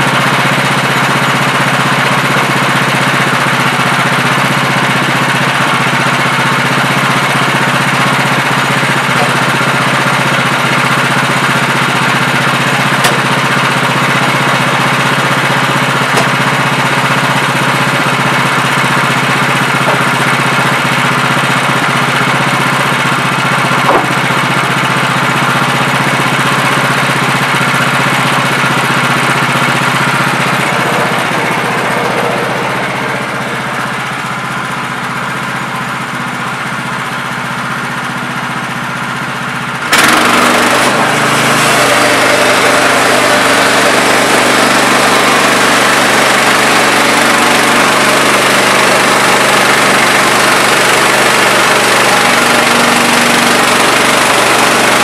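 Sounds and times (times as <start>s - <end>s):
sawmill gas engine running: 0.0s - 55.0s.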